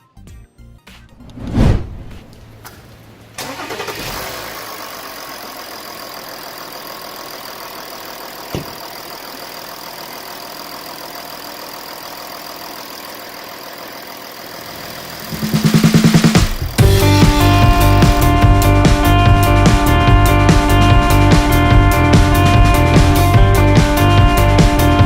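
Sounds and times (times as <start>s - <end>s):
diesel engine starting and idling: 2.1s - 25.0s
engine knock: 2.6s - 25.0s.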